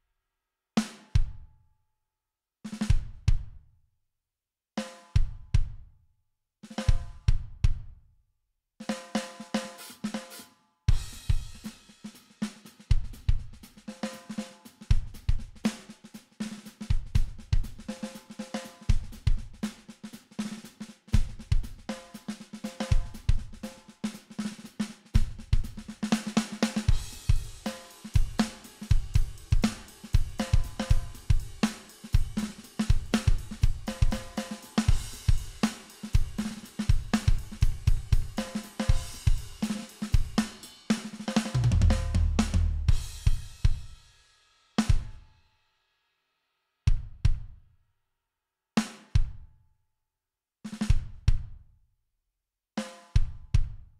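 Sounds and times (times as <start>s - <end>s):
saturated rock drum groove: 0.8s - 1.5s, 2.7s - 3.6s, 4.8s - 5.9s, 6.6s - 8.0s, 8.8s - 45.4s, 46.9s - 47.6s, 48.8s - 49.4s, 50.7s - 51.6s, 52.8s - 53.9s.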